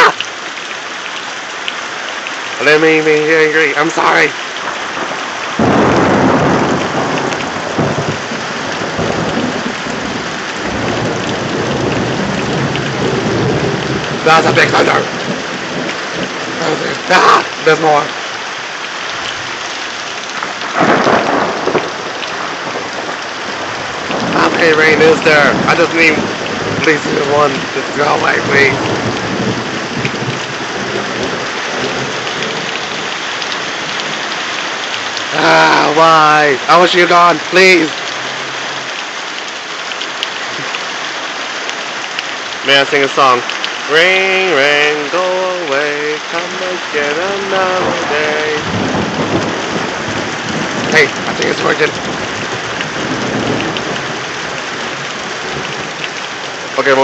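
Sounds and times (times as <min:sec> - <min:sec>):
heavy rain pouring: 0:00.0 - 0:57.0
thunder rumbling: 0:03.6 - 0:36.7, 0:42.5 - 0:56.8.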